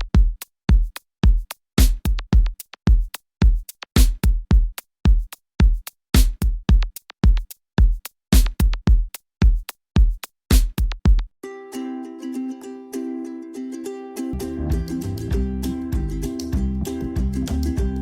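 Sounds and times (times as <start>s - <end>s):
drum-machine beat: 0.0s - 11.4s, 14.4s - 18.0s.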